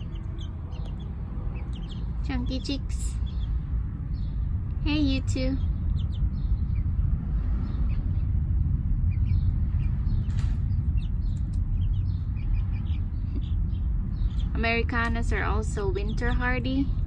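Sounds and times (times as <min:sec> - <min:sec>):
chicks peeping: 0:00.0 - 0:17.0
steady low rumble: 0:00.0 - 0:17.0.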